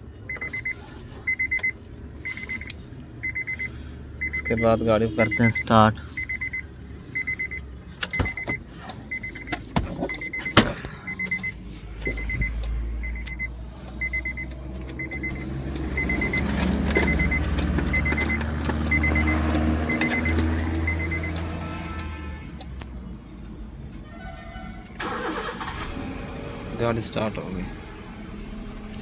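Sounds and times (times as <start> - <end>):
car engine starting and running: 0.0 - 29.0
car warning chime beeping: 0.2 - 22.9, 25.0 - 25.9.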